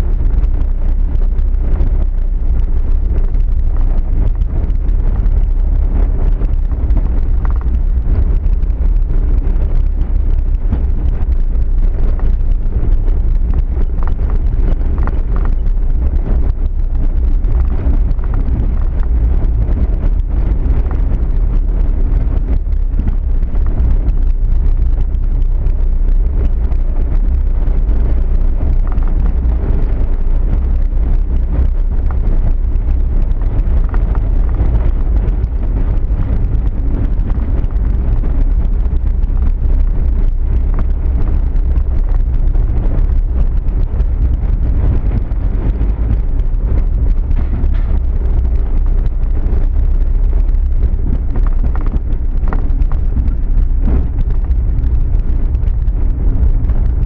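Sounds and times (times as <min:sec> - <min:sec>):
car engine rumble: 0:00.0 - 0:57.0
tyres on rough road: 0:00.0 - 0:57.0
wind on microphone: 0:00.0 - 0:57.0.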